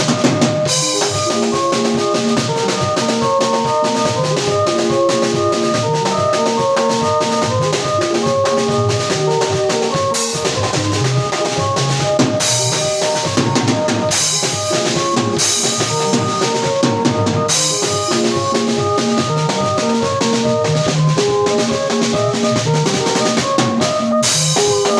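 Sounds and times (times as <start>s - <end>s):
drum kit beat: 0.0s - 24.9s
keyboard playing held chords: 0.0s - 24.9s.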